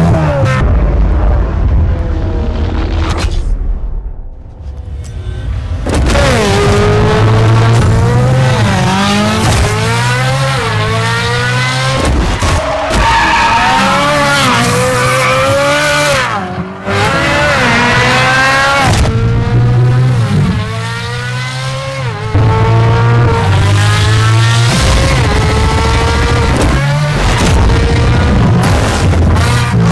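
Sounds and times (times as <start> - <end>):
sports car engine accelerating: 5.3 - 29.9.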